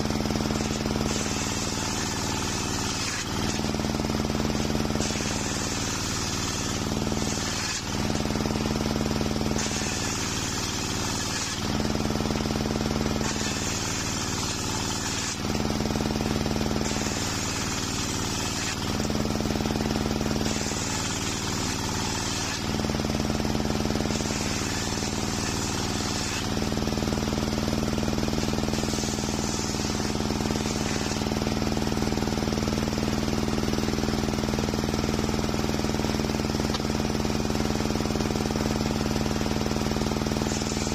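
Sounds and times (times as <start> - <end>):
saw blade cutting wood: 0.0 - 32.9, 37.7 - 40.9
circular saw running: 0.0 - 40.9.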